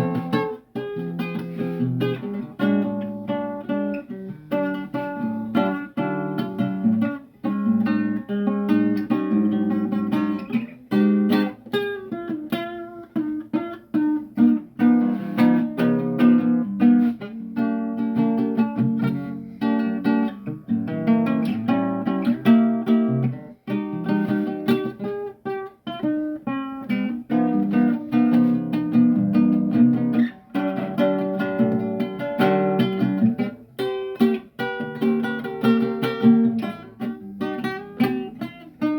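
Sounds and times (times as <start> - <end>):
acoustic guitar: 0.0 - 38.9.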